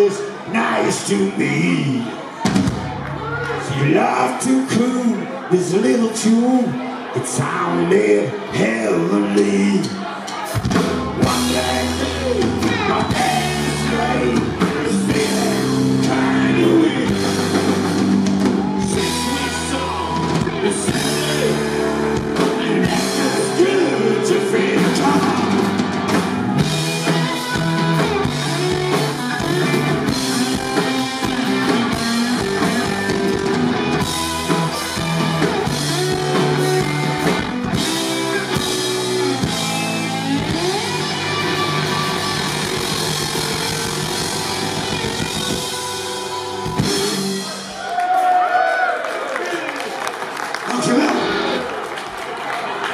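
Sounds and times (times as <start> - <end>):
live rock band playing: 0.0 - 3.7, 9.2 - 48.6, 50.7 - 51.8.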